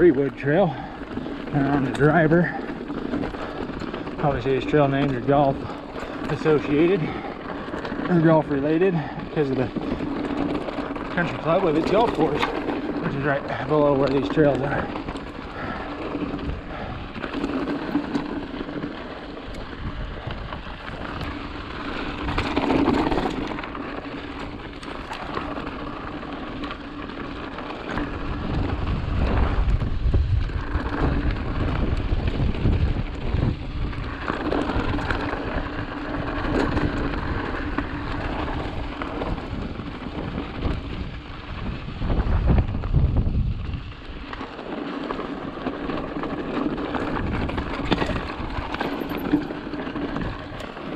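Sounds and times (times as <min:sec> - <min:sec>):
bike rattling: 0:00.0 - 0:50.9
bike tyres rolling over dirt: 0:00.0 - 0:50.9
wind rumbling on microphone: 0:00.0 - 0:50.9.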